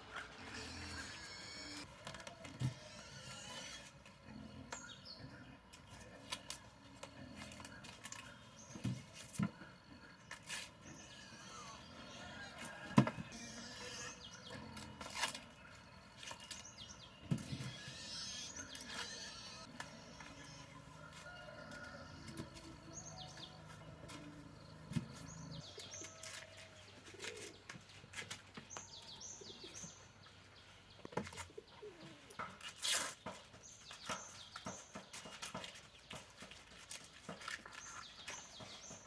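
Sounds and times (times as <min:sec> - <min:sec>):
faint outdoor background: 0:00.0 - 0:39.0.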